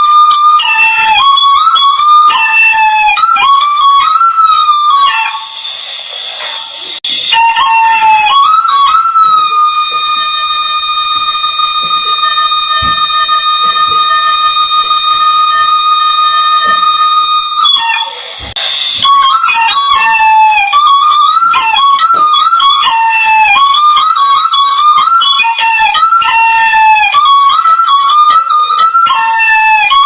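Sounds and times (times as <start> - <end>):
bamboo flute playing: 0.0 - 30.0.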